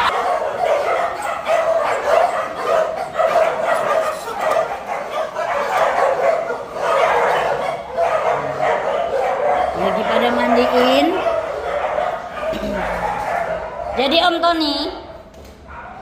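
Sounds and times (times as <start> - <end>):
many dogs barking and yipping: 0.0 - 14.6, 15.6 - 16.0.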